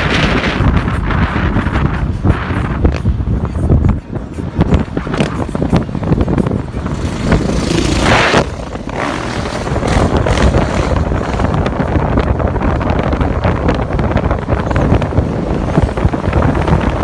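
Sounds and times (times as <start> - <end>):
vehicle engine and road noise: 0.0 - 17.0
wind buffeting microphone: 0.0 - 17.0.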